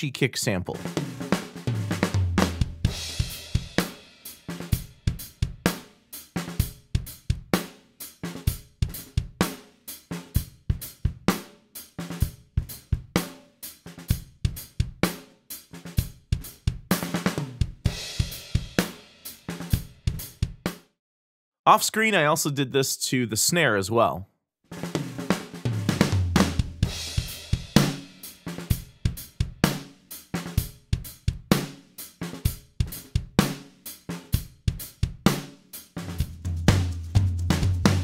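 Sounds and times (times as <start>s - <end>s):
drum kit groove: 0.0s - 20.9s, 24.7s - 38.0s.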